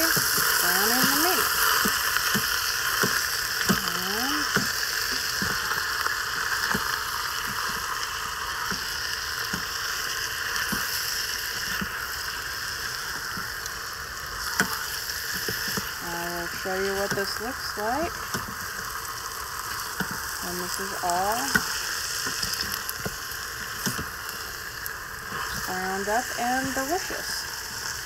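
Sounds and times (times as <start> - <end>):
meat sizzling in a pot: 0.0 - 28.0.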